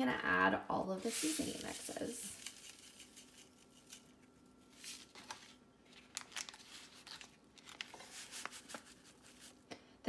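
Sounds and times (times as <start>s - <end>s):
packets crinkling: 1.1s - 9.6s.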